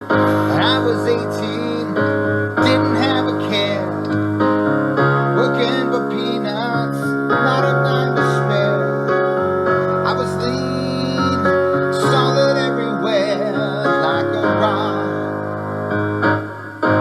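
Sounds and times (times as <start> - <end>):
gliding keyboard melody: 0.0 - 17.0
held piano-like chords: 0.0 - 17.0.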